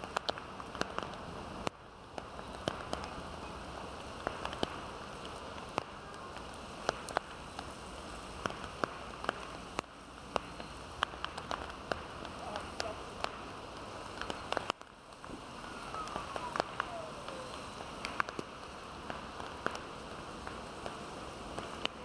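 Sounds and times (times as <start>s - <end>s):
heavy rain hissing: 0.0s - 22.0s
raindrops ticking: 0.0s - 22.0s.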